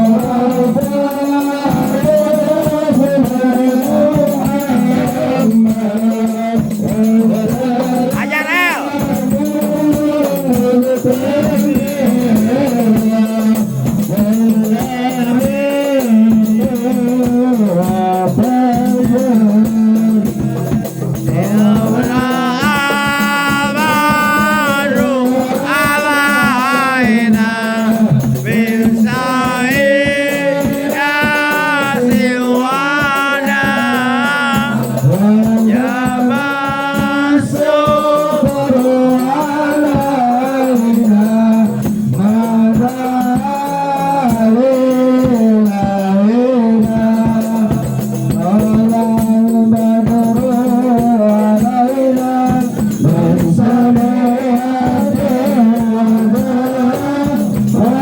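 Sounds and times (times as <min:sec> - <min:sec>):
shaken rattling percussion: 0:00.0 - 0:58.0
solo voice singing: 0:00.0 - 0:58.0.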